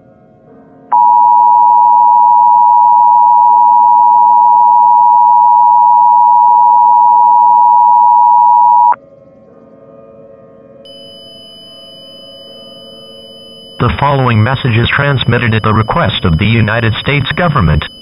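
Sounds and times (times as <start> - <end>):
two-tone alert signal: 0.9 - 9.0, 10.9 - 18.0.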